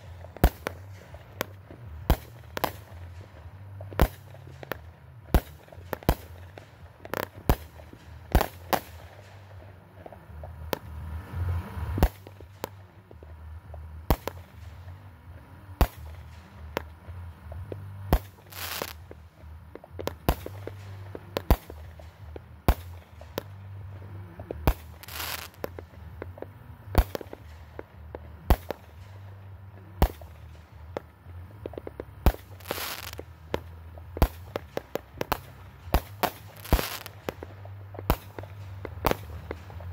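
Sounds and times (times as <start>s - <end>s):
firework bangs: 0.0s - 39.9s
hissing firework bursts: 0.0s - 39.9s.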